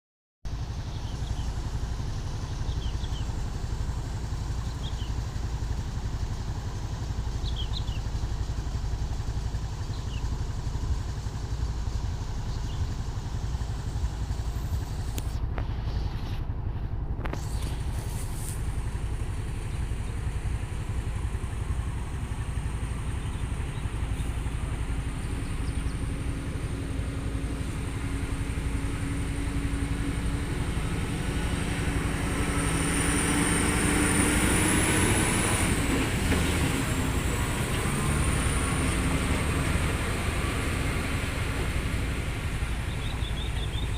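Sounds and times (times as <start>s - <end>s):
traffic engines rumbling: 0.5s - 43.9s.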